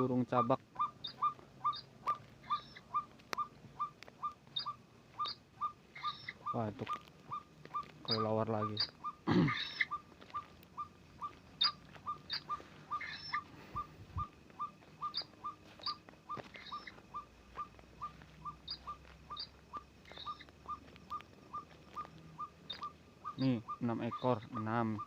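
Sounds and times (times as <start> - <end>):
sharp high chirps: 0.0 - 25.0.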